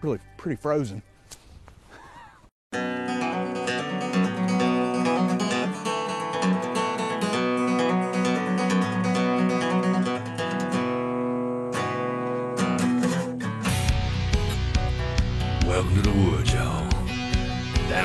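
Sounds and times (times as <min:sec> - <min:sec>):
acoustic guitar strumming: 0:02.8 - 0:18.0.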